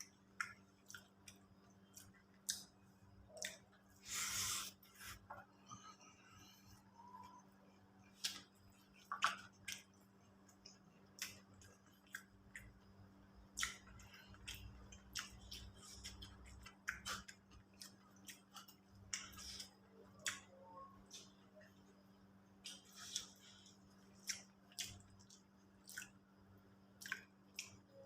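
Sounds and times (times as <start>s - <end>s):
wet chewing sounds: 0.0s - 5.4s, 8.0s - 12.9s, 13.5s - 21.8s, 22.6s - 28.0s
faint steady hum: 0.0s - 28.0s.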